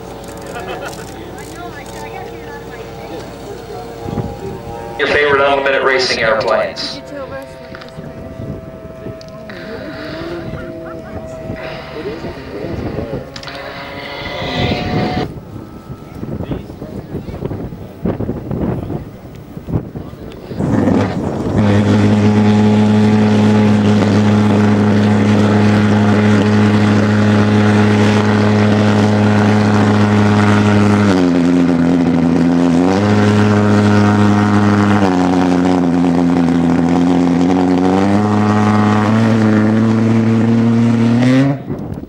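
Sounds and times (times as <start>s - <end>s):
pulse-jet engine buzzing drone: 0.0s - 42.0s.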